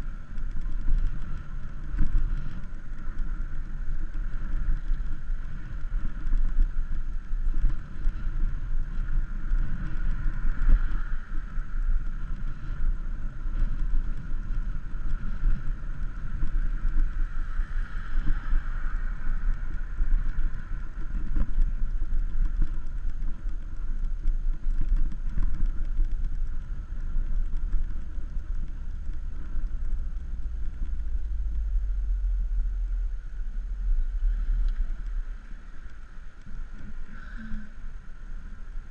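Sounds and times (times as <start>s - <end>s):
road noise: 0.0s - 38.9s
wind rumble: 0.0s - 38.9s.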